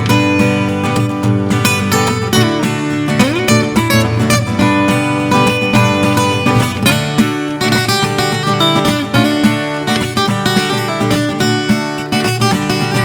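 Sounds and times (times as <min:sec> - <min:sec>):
strummed acoustic guitar music: 0:00.0 - 0:13.0.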